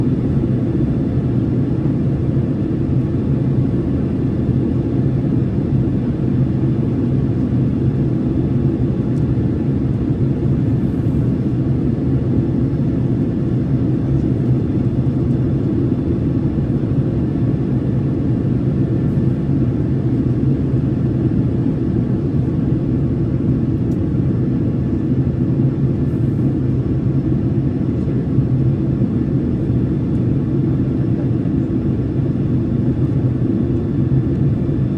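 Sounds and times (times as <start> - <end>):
airliner cabin engine drone: 0.0 - 34.9.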